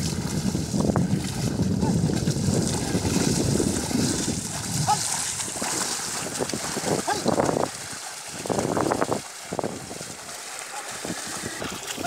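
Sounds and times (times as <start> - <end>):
hooves splashing in muddy water: 0.0 - 12.0.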